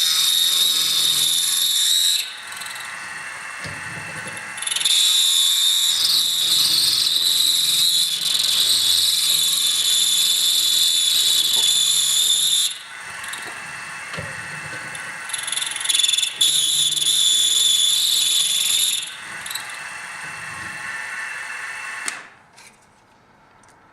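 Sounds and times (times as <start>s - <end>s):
power drill boring into metal: 0.0s - 22.3s.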